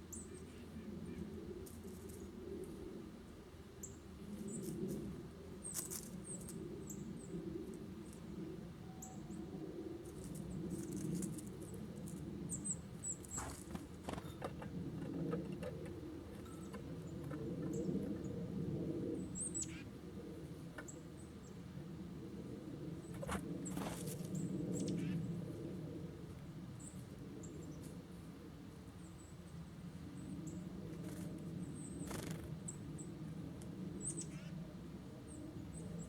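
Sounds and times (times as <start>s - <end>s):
songbirds chipping: 0.0s - 3.0s, 3.7s - 25.5s, 26.7s - 36.0s.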